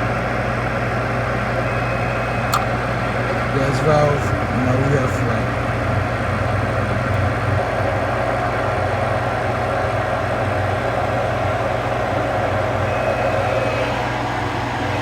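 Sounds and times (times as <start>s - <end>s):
gas furnace running: 0.0s - 15.0s.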